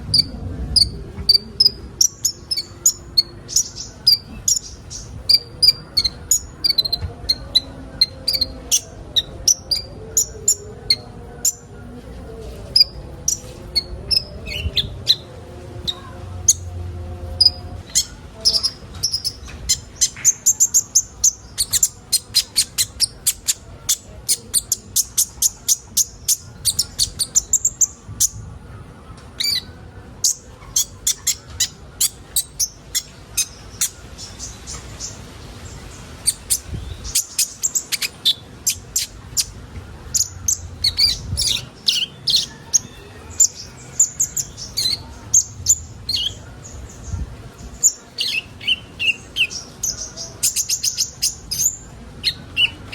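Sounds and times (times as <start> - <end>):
sunbirds chirping: 0.0 - 52.9.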